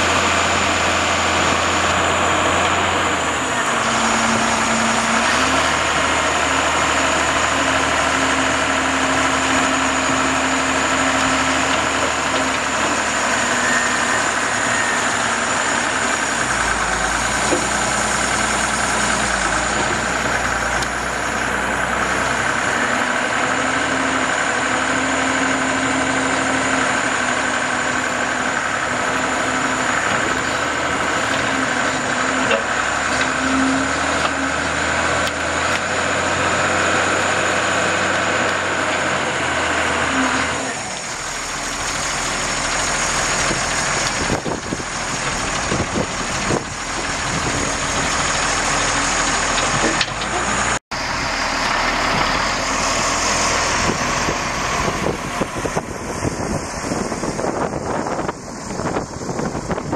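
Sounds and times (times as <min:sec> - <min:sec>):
diesel excavator engine running: 0:00.0 - 0:59.9.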